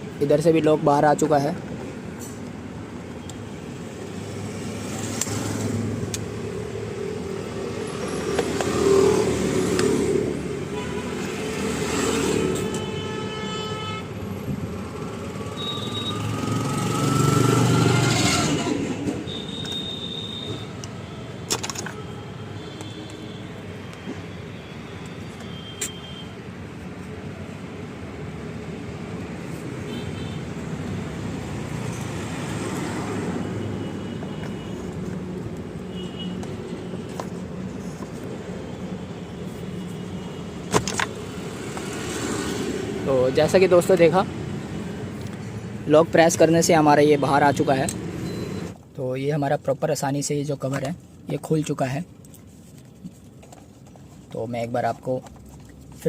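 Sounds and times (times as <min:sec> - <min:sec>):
traffic: 0:00.0 - 0:56.0.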